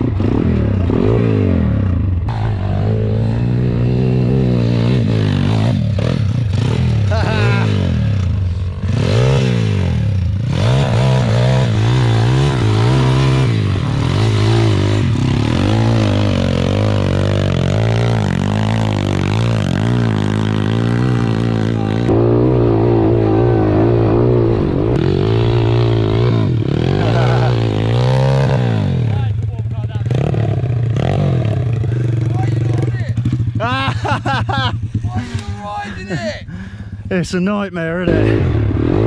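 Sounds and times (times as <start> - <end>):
motorbike engine revving: 0.0 - 37.1, 38.0 - 39.0.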